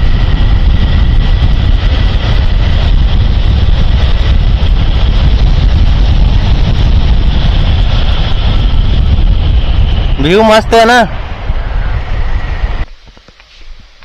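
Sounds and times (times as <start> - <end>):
wind rush on microphone: 0.0 - 14.0.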